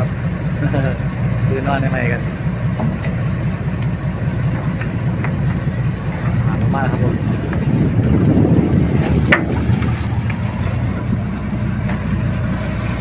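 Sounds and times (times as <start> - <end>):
boat engine pulsing rumble: 0.0 - 13.0.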